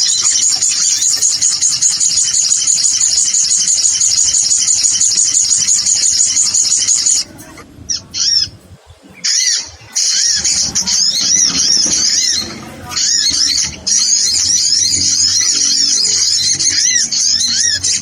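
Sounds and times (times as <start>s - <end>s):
high-pitched bird twittering: 0.0s - 7.3s, 7.9s - 18.0s
bird chirps: 0.0s - 18.0s.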